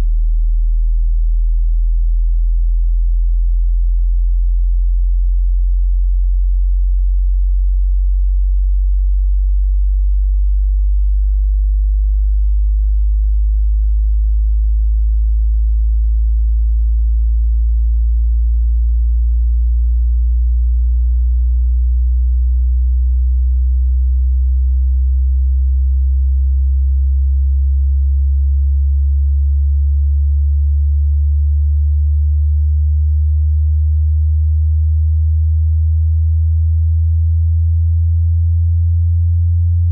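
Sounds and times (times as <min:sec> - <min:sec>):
low sine tone sweep: 0:00.0 - 0:39.9.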